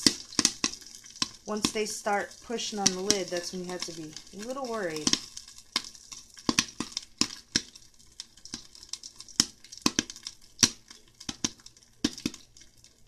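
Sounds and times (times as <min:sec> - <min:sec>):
popcorn popping in pan: 0:00.0 - 0:13.0.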